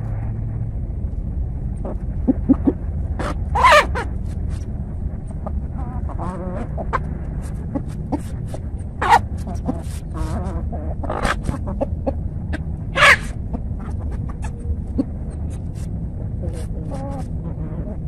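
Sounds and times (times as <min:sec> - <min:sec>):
low rumble: 0:00.0 - 0:18.0
chickens clucking and squawking: 0:01.8 - 0:04.6, 0:05.2 - 0:18.0.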